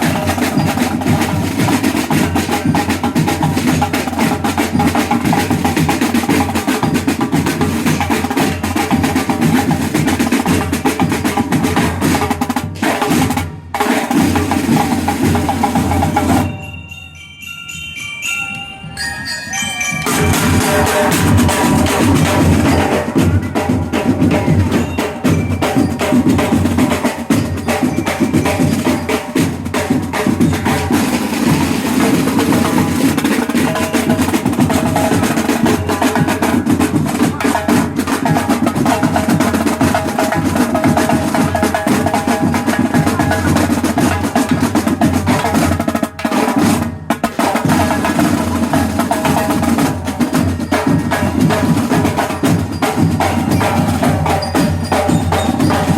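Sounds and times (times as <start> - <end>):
snare and bass drums: 0.0 - 16.6, 20.0 - 55.9
marching band playing: 0.0 - 55.9.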